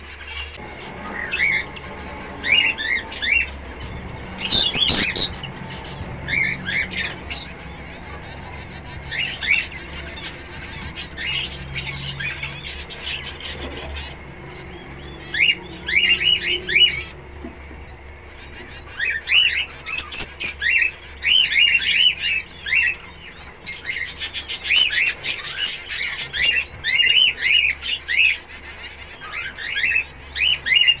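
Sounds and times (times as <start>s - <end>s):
finches chirping: 0.0s - 31.0s.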